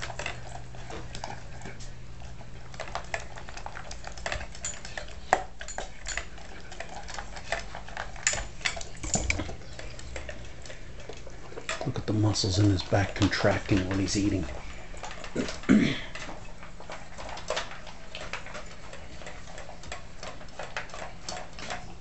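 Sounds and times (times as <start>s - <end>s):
dog chewing and slurping: 0.0s - 22.0s.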